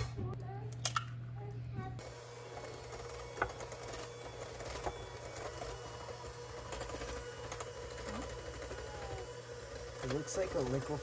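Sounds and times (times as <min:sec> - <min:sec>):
electric hand mixer running: 0:02.0 - 0:11.0.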